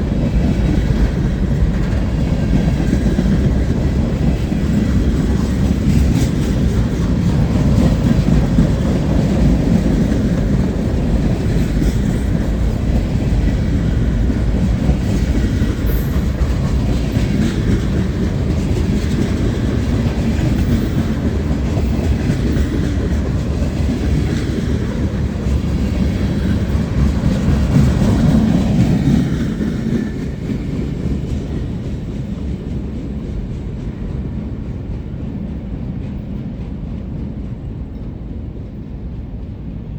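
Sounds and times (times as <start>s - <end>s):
clickety-clack over rail joints: 0.0s - 39.9s
train wheels rumbling on rail: 0.0s - 39.9s.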